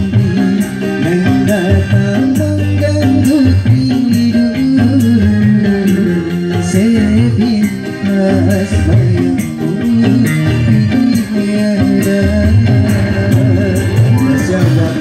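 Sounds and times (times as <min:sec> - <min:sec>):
guitar: 0:00.0 - 0:15.0
man singing into microphone: 0:00.0 - 0:15.0.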